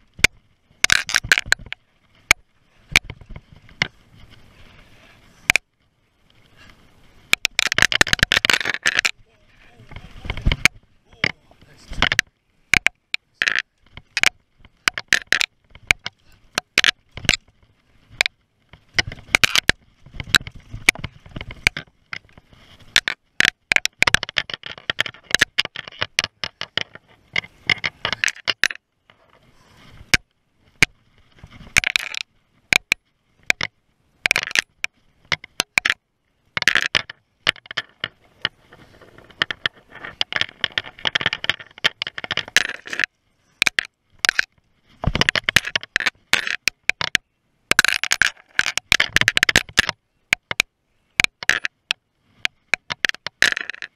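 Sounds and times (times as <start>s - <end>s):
bike tyres crunching over dirt: 0.0s - 35.4s, 36.2s - 47.2s
scraping: 0.0s - 36.0s, 36.6s - 50.6s, 51.2s - 53.9s.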